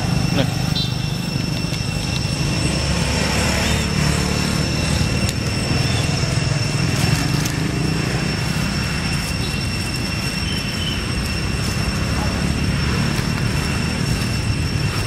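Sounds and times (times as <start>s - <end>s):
high-pitched whine: 0.0s - 15.0s
motorbike passing: 0.0s - 15.0s
road traffic rumble: 0.0s - 15.0s.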